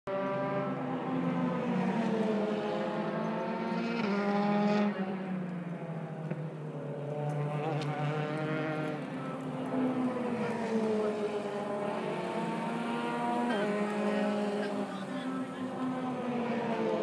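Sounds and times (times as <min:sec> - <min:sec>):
car engine droning: 0:00.1 - 0:17.0.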